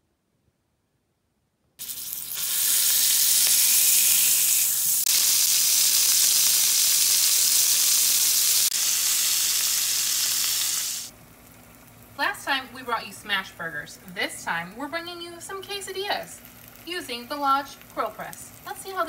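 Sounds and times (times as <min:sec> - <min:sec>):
burger patty sizzling on griddle: 0:01.8 - 0:13.6, 0:15.1 - 0:19.0.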